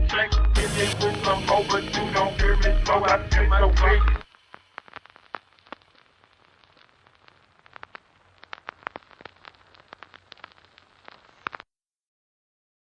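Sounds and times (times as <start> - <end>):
faint crackling clicks and pops: 0.3 - 11.7
low hiss: 0.5 - 11.6.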